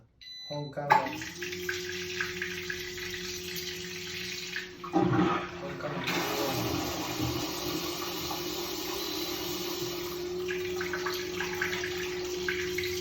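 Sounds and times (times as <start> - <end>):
fill valve humming: 0.9 - 13.0
water rushing into cistern: 0.9 - 13.0.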